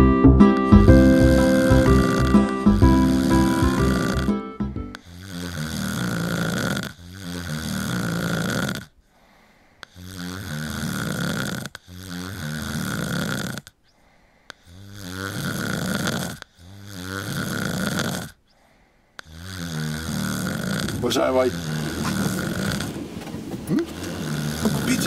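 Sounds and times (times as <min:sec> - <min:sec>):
people snoring: 0:00.5 - 0:13.8, 0:14.5 - 0:25.0.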